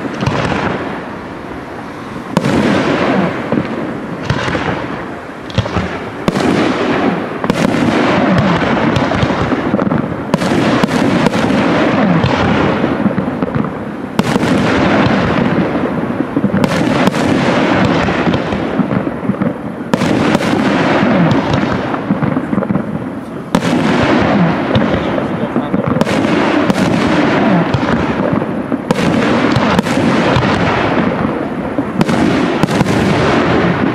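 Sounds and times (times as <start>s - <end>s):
firework shells bursting: 2.3s - 33.9s.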